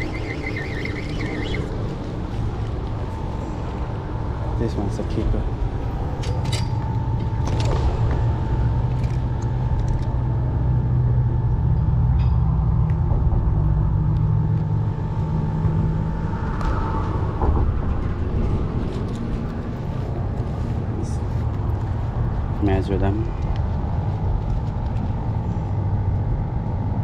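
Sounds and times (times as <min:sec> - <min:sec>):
passing vehicle engine rumble: 0:00.0 - 0:27.0.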